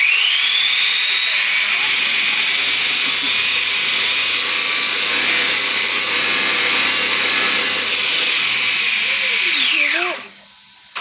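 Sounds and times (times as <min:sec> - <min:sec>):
electric motor whining at high revs: 0:00.0 - 0:11.0.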